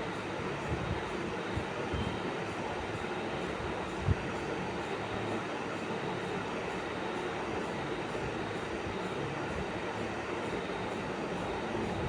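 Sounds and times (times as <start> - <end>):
steady mechanical running noise: 0.0 - 12.0.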